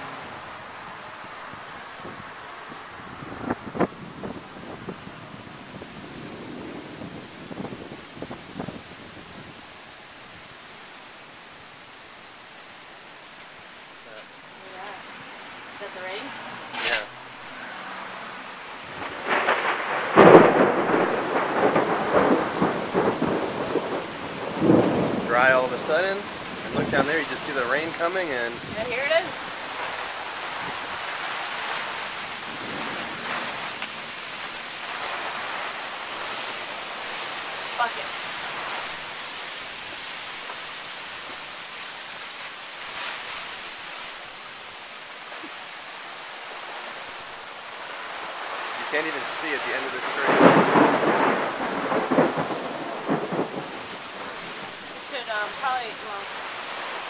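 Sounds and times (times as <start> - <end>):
thunderstorm rain surging: 0.0 - 57.0.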